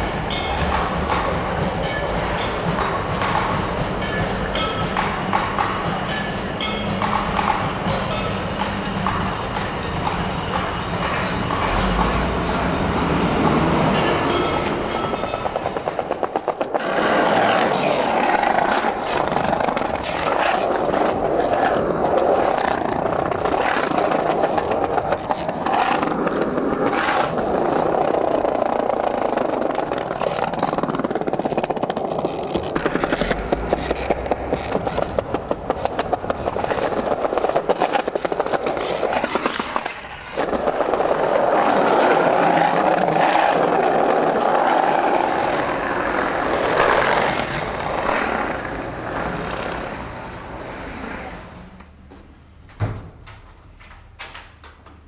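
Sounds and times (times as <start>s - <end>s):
skateboard wheels clacking on cracks: 0.0s - 51.5s
skateboard wheels rolling on pavement: 0.0s - 52.4s.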